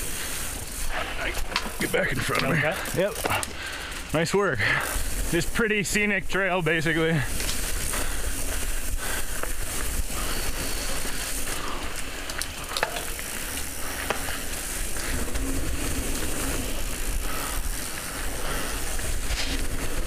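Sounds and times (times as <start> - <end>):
bike clicks: 0.0 - 20.0
tyres crunching over gravel: 0.0 - 20.0.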